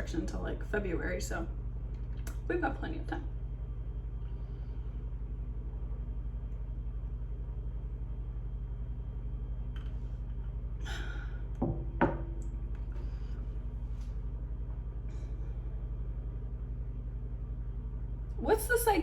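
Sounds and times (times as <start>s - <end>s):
low pulsing hum: 0.0s - 19.0s.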